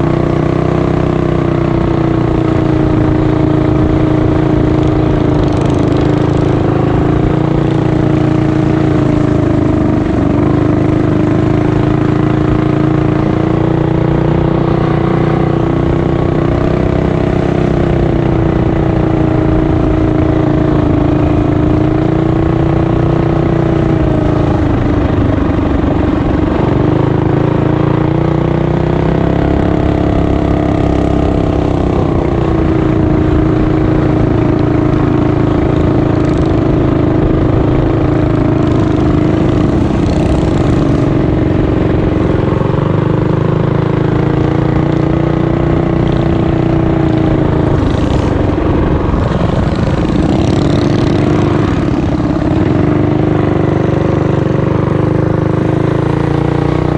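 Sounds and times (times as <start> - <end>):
mini bike engine running: 0.0 - 56.9.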